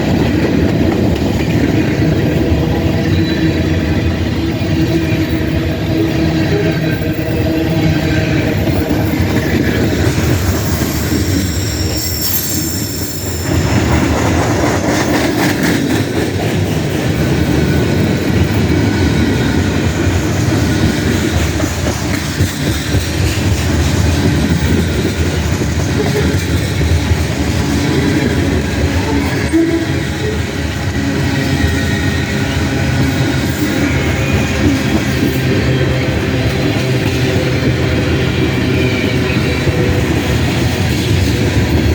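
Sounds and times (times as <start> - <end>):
freight train rolling past: 0.0 - 41.9
high wheel squeal: 2.8 - 14.0, 17.5 - 41.9.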